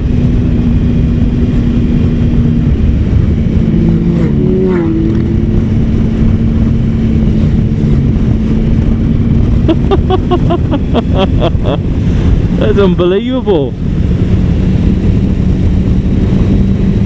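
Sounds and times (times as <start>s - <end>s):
motorcycle engine cruising: 0.0s - 17.0s
wind and road rumble: 0.0s - 17.0s.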